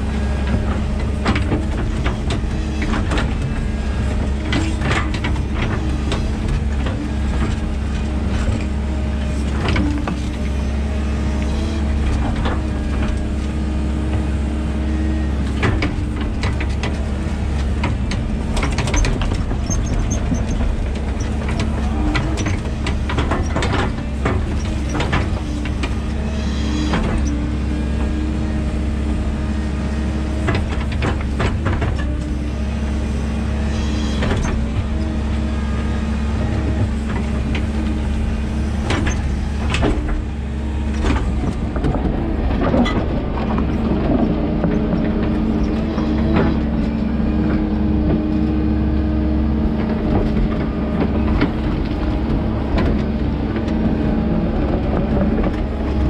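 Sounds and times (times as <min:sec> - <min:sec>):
excavator engine drone: 0:00.0 - 0:56.0.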